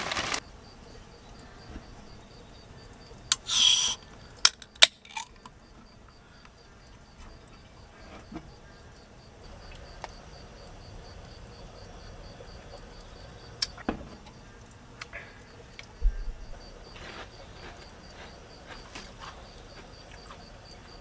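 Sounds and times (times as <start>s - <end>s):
cricket chirping: 0.2s - 21.0s.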